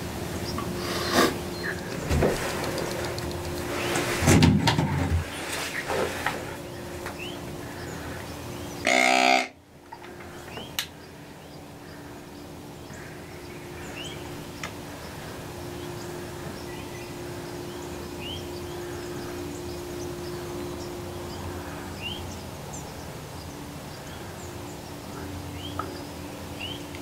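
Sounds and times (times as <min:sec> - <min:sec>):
birds chirping: 0:00.0 - 0:27.0
low hum and rumble: 0:00.0 - 0:27.0.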